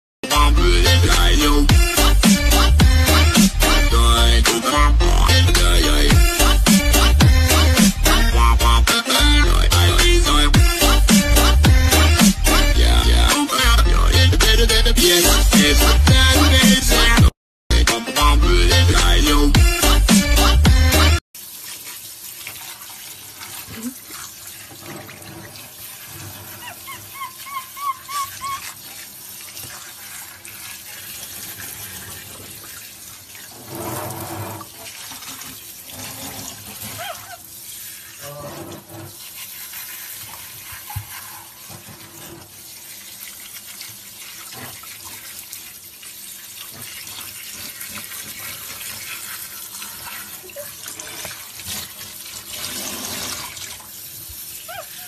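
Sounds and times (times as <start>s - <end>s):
shower sprayer water running: 0.8s - 13.7s, 19.0s - 55.0s.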